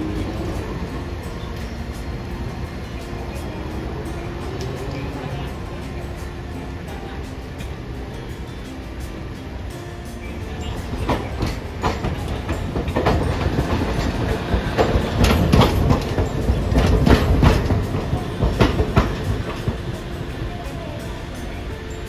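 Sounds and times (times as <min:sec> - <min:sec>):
streetcar low running rumble: 0:00.0 - 0:22.0
streetcar wheels clacking on rail joints: 0:00.0 - 0:22.0.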